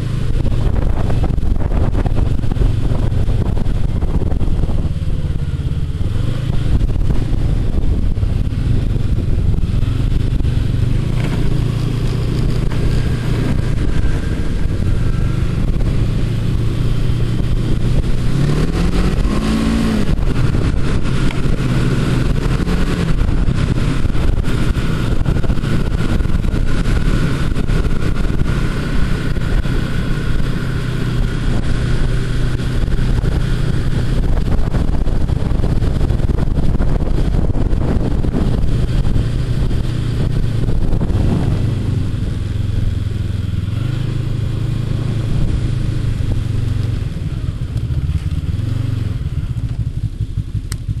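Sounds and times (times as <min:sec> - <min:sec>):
snowmobile engine droning: 0:00.0 - 0:51.0
snowmobile track noise: 0:00.0 - 0:51.0
wind: 0:00.0 - 0:51.0.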